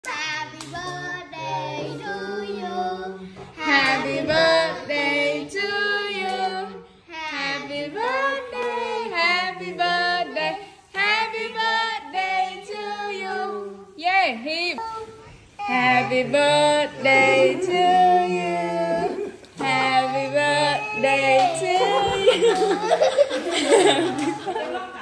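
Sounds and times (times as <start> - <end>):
woman and children singing: 0.0 - 24.8.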